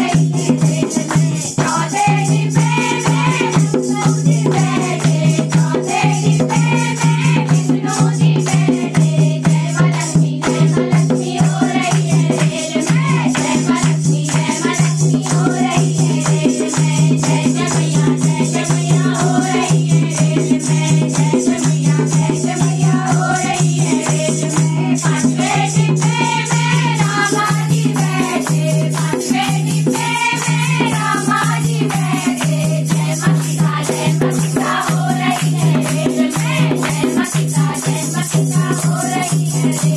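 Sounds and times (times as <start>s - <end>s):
hand-clapping: 0.0s - 19.5s, 23.5s - 39.9s
hand drum beat: 0.0s - 39.9s
rattling percussion: 0.0s - 39.9s
women singing together: 0.0s - 39.9s.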